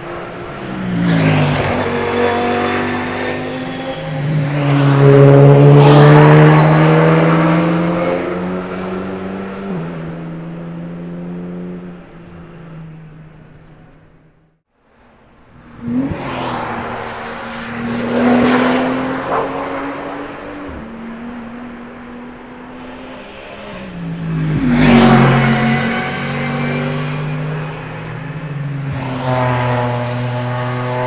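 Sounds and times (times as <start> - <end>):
race cars passing at speed: 0.0 - 31.0.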